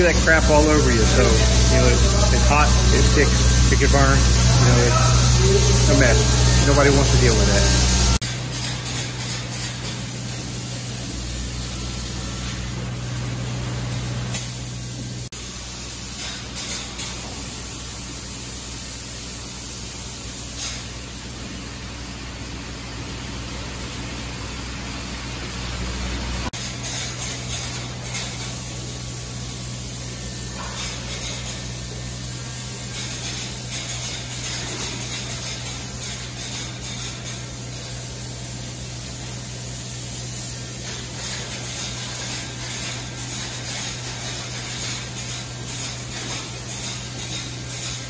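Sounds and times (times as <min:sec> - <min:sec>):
spray foam gun hissing: 0:00.0 - 0:12.6, 0:14.3 - 0:21.1, 0:26.6 - 0:48.0.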